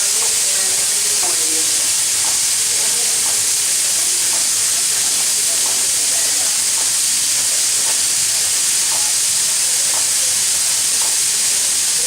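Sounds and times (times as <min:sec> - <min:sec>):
steam locomotive venting steam: 0:00.0 - 0:12.0.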